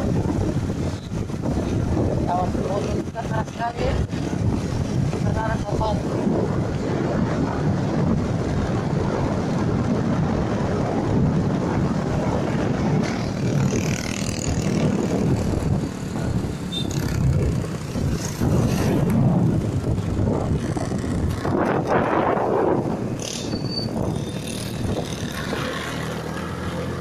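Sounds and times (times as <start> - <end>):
vehicle engine rumble: 0.0 - 27.0
wind buffeting microphone: 0.0 - 27.0.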